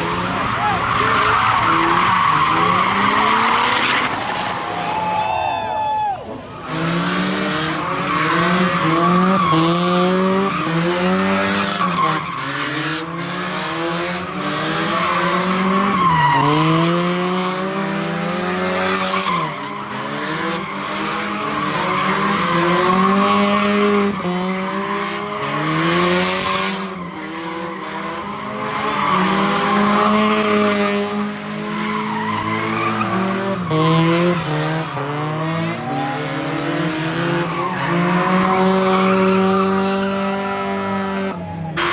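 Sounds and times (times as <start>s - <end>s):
car engine revving: 0.0s - 4.8s, 6.5s - 41.9s
car tires screeching: 0.0s - 41.9s.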